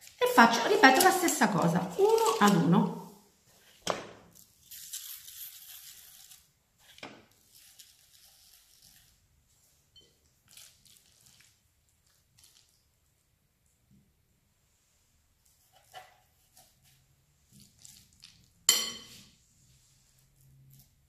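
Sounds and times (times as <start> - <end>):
breadcrumbs rustling: 0.0 - 13.1, 15.3 - 21.0.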